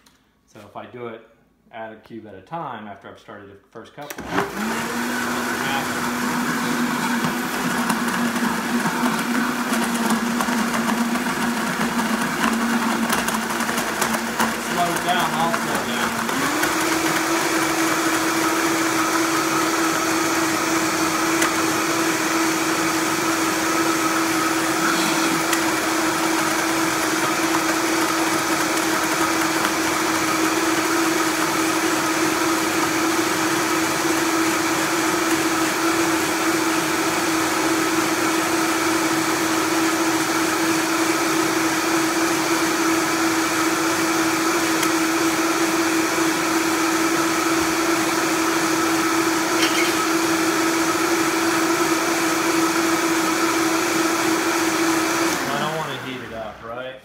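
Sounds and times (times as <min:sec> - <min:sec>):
blender motor whining: 0:04.1 - 0:56.6.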